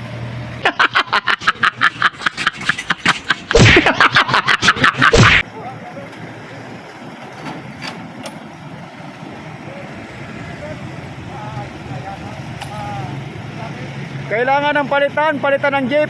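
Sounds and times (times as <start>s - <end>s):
diesel engine pulsing rapidly: 0.0s - 16.0s.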